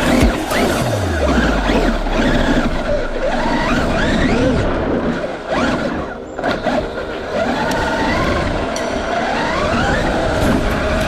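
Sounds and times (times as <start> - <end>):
electric motor whining: 0.0 - 11.0
rushing noise: 0.0 - 11.0.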